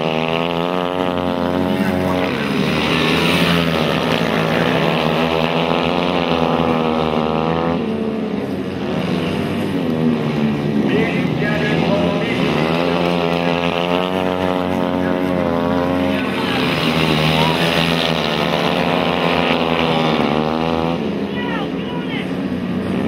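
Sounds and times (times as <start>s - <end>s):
motorcycle engines racing: 0.0s - 23.0s.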